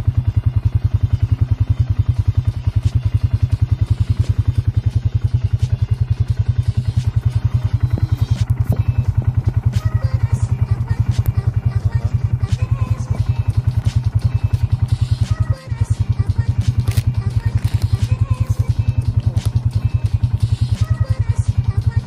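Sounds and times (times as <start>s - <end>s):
motorbike engine idling: 0.0s - 22.0s.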